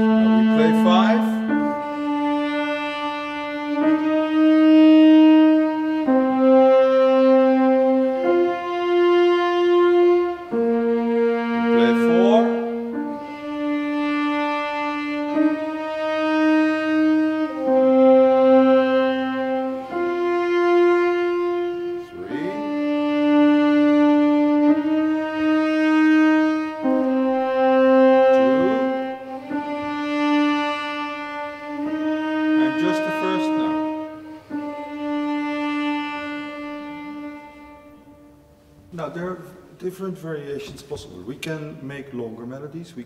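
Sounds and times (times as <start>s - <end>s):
cello: 0.0s - 43.0s
grand piano: 0.0s - 43.0s
violins: 0.0s - 43.0s.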